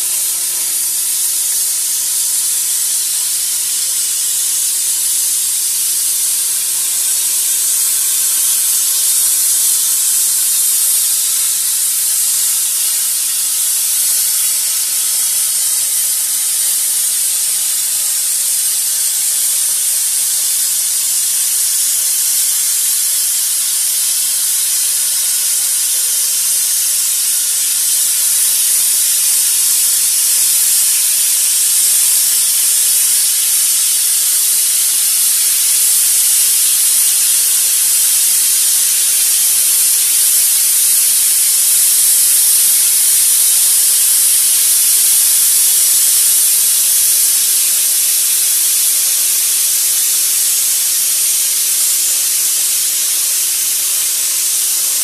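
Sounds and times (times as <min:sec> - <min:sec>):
plasma cutter hissing: 0:00.0 - 0:55.0.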